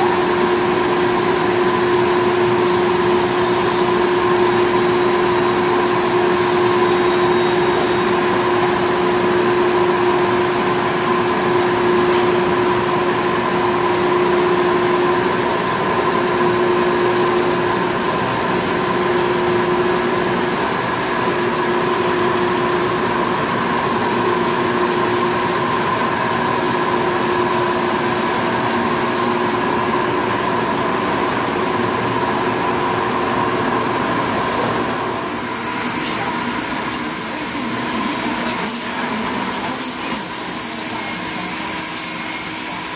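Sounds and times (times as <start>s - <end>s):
log-milling machinery humming: 0.0s - 42.9s
machinery whine: 0.0s - 42.9s.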